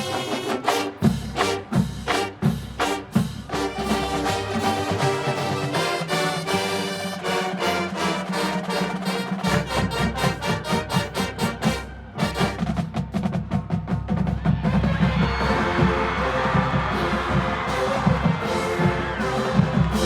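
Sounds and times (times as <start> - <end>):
fast percussion strokes: 0.0 - 20.0
marching band playing: 0.0 - 20.0.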